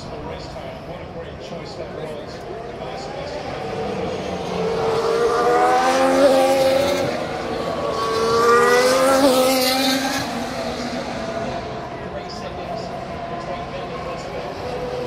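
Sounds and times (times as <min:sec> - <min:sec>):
racing cars passing by: 0:00.0 - 0:15.0.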